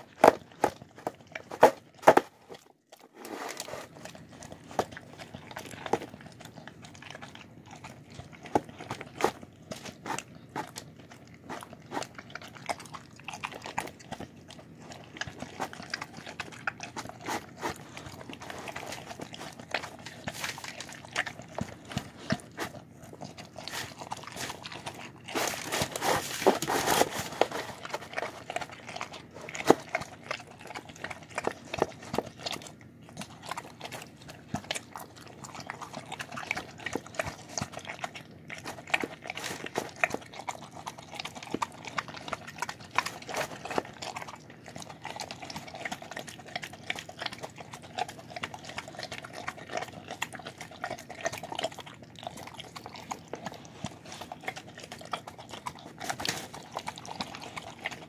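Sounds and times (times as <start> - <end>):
dog chewing and licking: 0.0 - 58.0.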